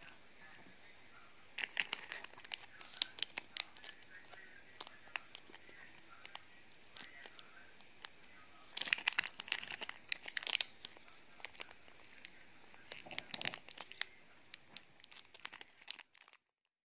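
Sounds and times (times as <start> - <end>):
packaging crinkling: 1.5 - 16.5.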